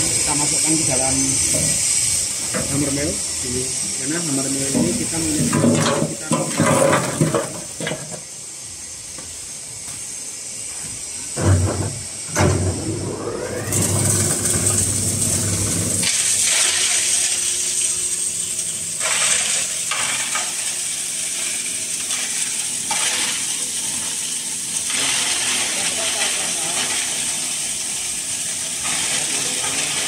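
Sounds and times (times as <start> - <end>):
hammer mill grinding charcoal: 0.0 - 30.0.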